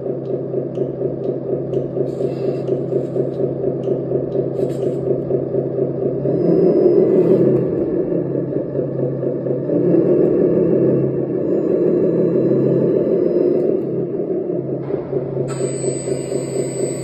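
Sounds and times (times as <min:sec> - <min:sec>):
toy truck low rumble: 0:00.0 - 0:17.0.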